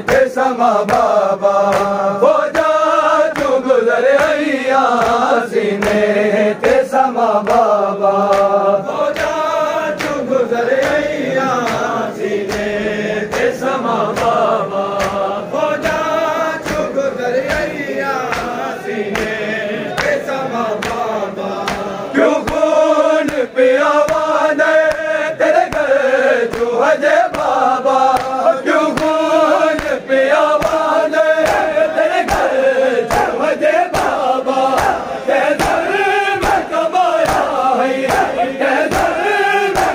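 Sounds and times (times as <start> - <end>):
hand slaps on chests: 0.0 - 39.9
men chanting in unison: 0.0 - 39.9.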